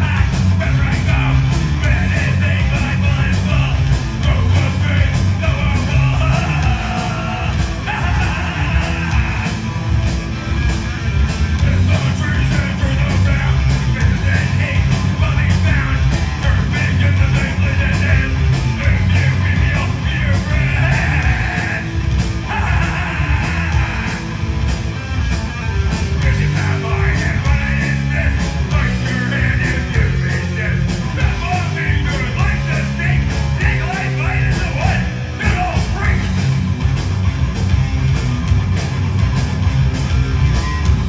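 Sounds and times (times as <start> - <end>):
live punk rock band: 0.0 - 41.0.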